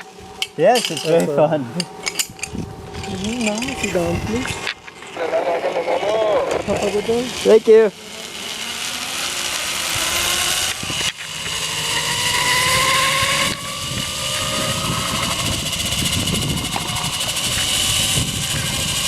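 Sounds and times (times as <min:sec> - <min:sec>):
zipline pulleys whirring: 0:00.0 - 0:19.0
steady rushing noise: 0:02.0 - 0:19.0.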